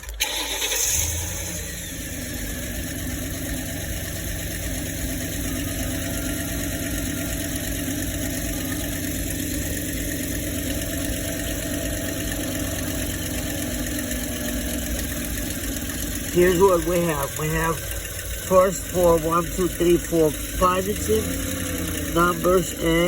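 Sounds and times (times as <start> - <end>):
engine idling with misfires: 0.0 - 23.0.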